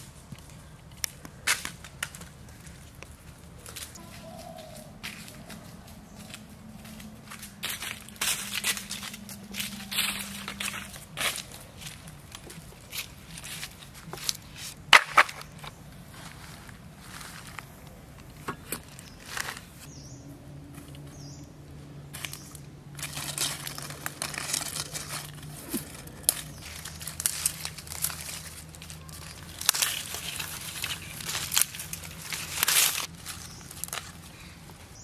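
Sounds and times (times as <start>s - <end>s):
dry leaves rustling and crackling: 0.0s - 18.0s, 18.8s - 19.9s, 20.7s - 35.0s.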